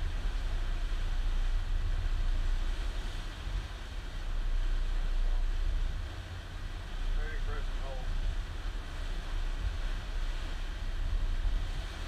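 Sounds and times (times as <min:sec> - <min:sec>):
powerboat engine rumble: 0:00.0 - 0:12.0
wind and water hiss: 0:00.0 - 0:12.0.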